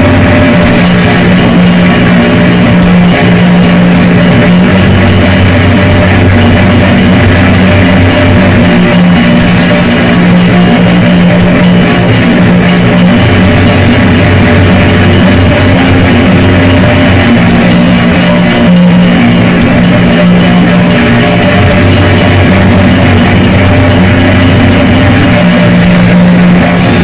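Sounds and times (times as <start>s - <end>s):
distorted guitars: 0.0s - 27.0s
steady drum beat: 0.0s - 27.0s.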